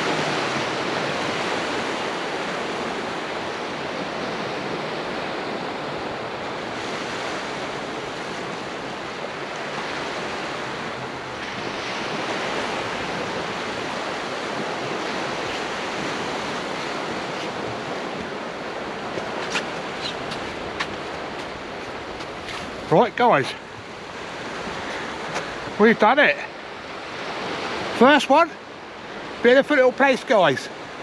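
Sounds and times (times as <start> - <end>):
sea waves washing onto shore: 0.0 - 31.0.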